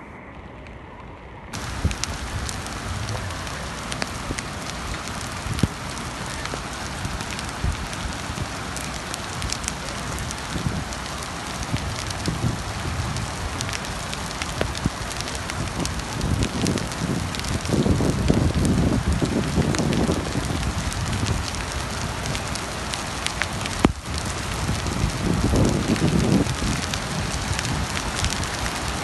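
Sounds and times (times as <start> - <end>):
hailstones rattling on hard surfaces: 1.6 - 29.0.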